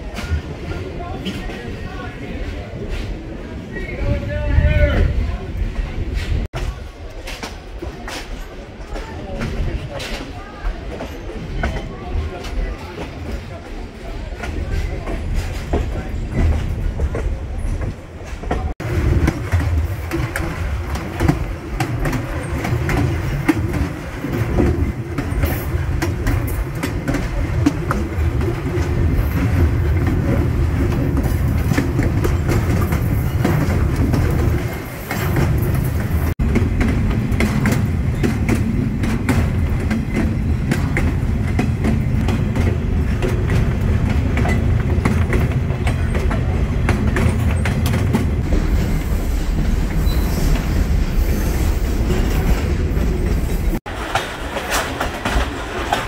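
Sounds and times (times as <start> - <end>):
train cars clicking and rattling: 0.0 - 56.0
train wheels rumbling on rail: 0.0 - 56.0.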